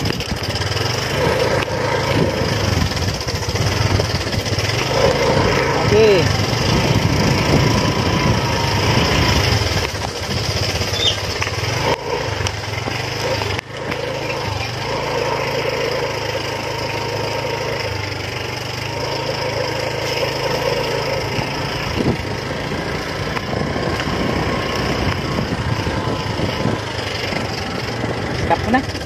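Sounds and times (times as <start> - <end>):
motorcycle engine running: 0.0 - 29.0
rattling on rough ground: 0.0 - 29.0.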